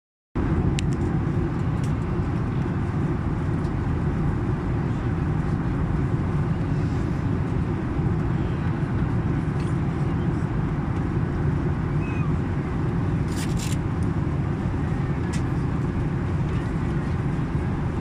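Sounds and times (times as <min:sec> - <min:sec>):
airliner cabin engine rumble: 0:00.4 - 0:18.0.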